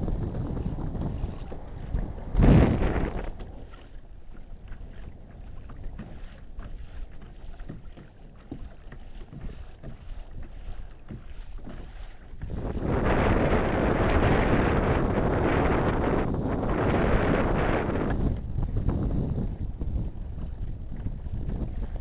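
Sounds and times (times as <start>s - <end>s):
water lapping against plastic hull: 0.0s - 22.0s
wind buffeting microphone: 0.0s - 22.0s.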